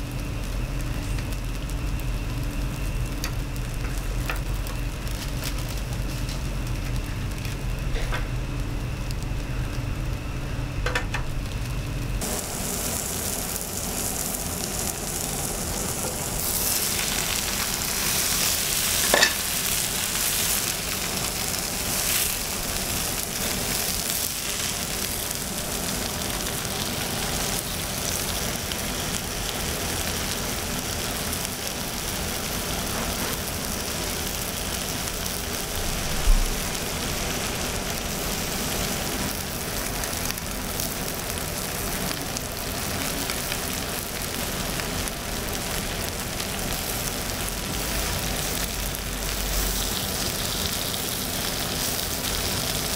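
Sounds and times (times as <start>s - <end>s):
low kitchen hum: 0.0s - 52.9s
meat sizzling on griddle: 0.0s - 52.9s.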